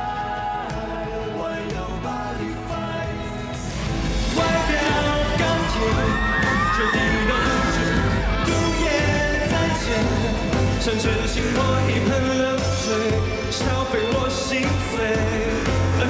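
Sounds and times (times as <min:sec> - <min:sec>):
pop song with male vocal: 0:00.0 - 0:16.0.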